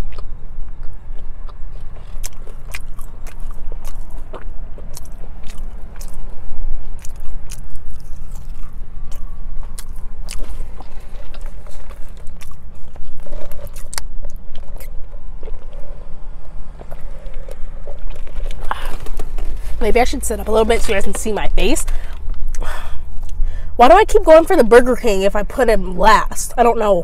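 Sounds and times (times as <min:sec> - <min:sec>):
chewing crunchy fries: 0:00.0 - 0:23.4
steady low hum: 0:00.0 - 0:27.0.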